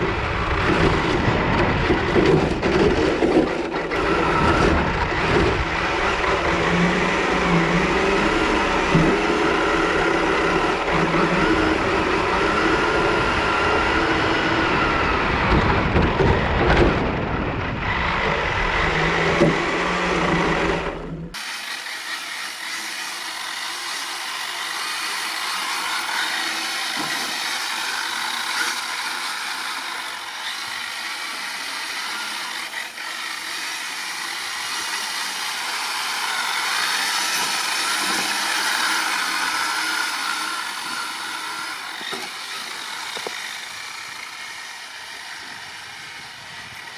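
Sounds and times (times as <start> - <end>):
rc car electric motor whining: 3.6 - 16.6, 17.4 - 46.9.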